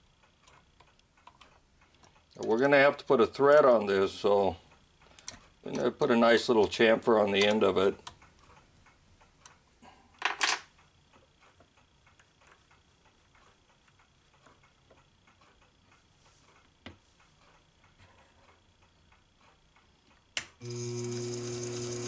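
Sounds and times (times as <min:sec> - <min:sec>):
faint ticking and handling: 0:00.0 - 0:20.6.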